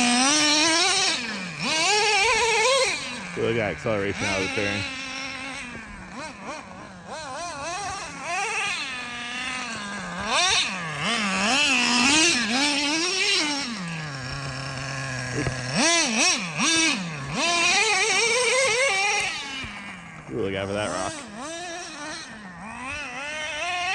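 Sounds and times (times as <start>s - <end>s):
small engine revving: 0.0s - 23.9s.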